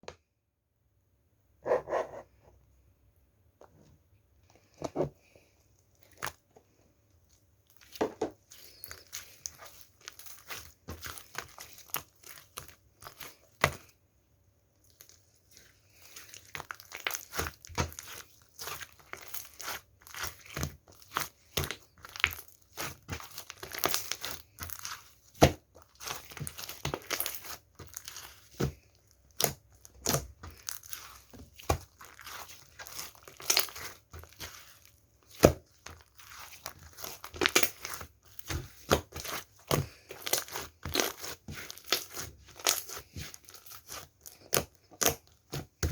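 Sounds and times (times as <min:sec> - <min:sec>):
slime squished by hand: 0:07.7 - 0:14.0, 0:14.8 - 0:45.9.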